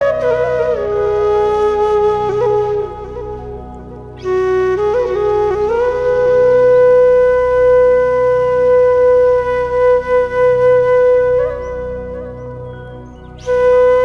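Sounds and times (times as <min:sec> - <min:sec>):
flute holding long note: 0:00.0 - 0:14.0
low drone: 0:00.0 - 0:14.0.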